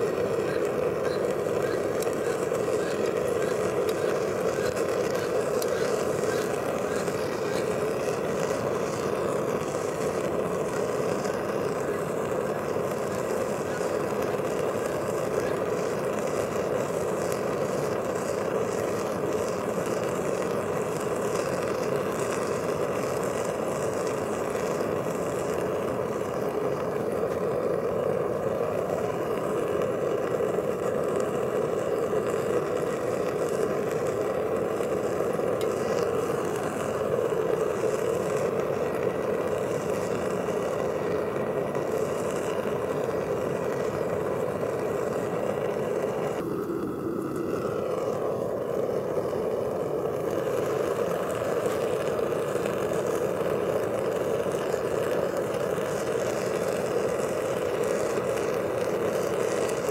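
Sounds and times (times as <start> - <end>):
furnace burner rushing: 0.0 - 59.9.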